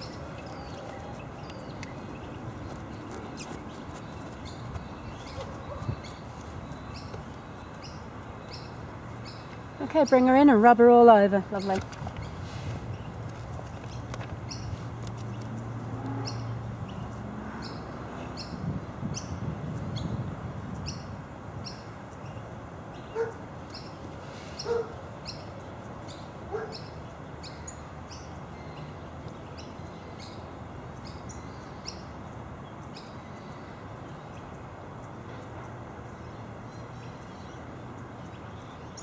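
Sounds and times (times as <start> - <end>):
bird chirping: 0.0 - 20.2, 20.8 - 39.0.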